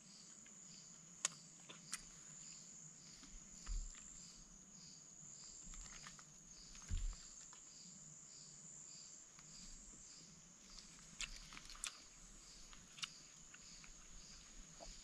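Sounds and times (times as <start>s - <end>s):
insects trilling: 0.0s - 15.0s
pulsing insect chirp: 0.0s - 15.0s.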